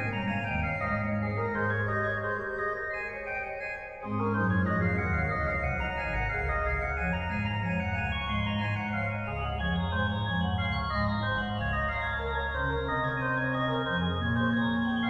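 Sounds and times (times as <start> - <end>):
organ music: 0.0 - 15.0.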